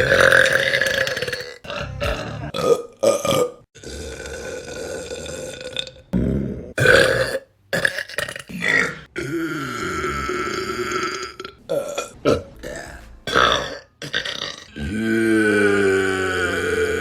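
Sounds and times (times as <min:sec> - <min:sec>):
women burping: 0:00.0 - 0:17.0.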